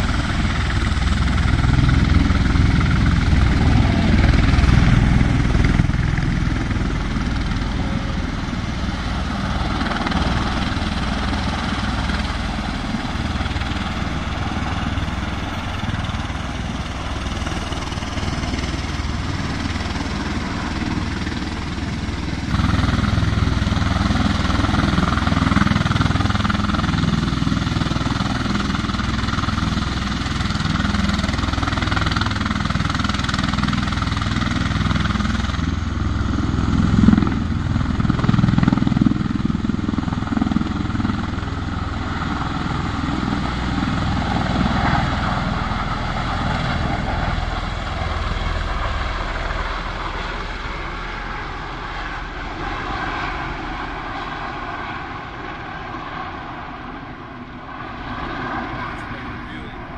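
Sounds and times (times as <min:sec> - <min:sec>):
aircraft engine and rotor rumble: 0:00.0 - 0:59.9.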